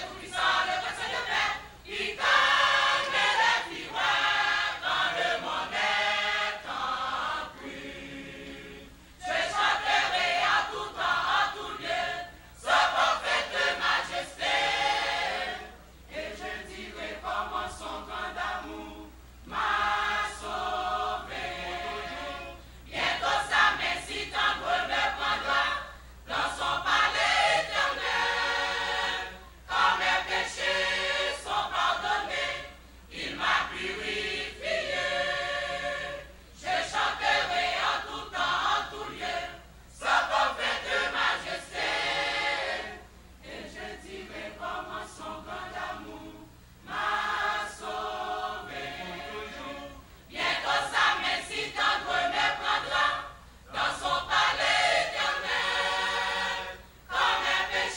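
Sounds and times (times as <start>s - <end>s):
mixed choir singing: 0.0s - 57.9s.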